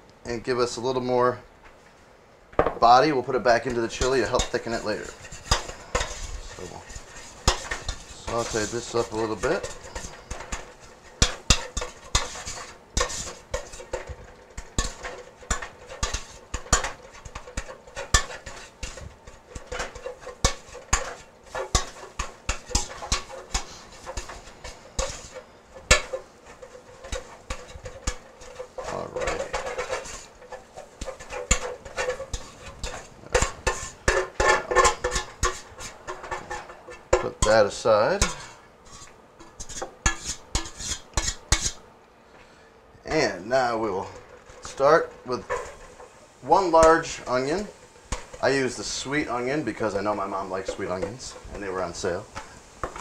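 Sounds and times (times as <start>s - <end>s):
spoon scraping a pot: 3.6s - 41.8s, 43.6s - 53.0s.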